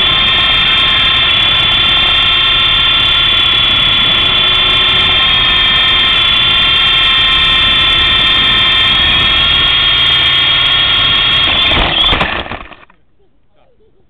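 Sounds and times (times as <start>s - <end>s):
model helicopter motors whining: 0.0s - 13.0s.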